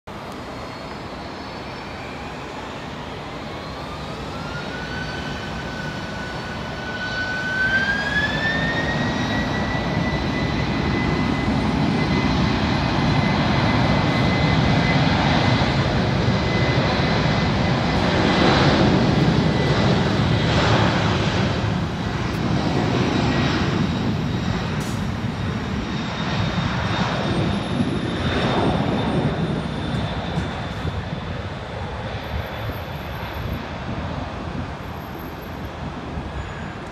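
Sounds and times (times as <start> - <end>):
jet engine rumble: 0.1 - 36.9
jet engines whine rising: 0.1 - 36.9.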